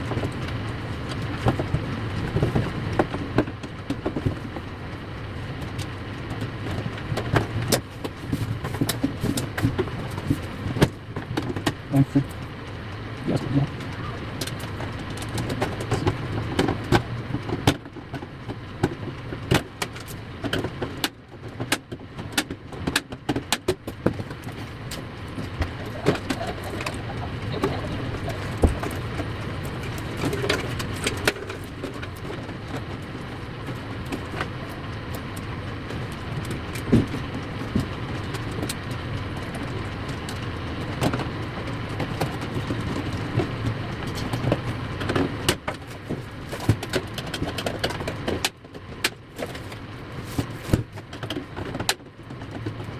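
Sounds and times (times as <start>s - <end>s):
low background hum: 0.0s - 52.9s.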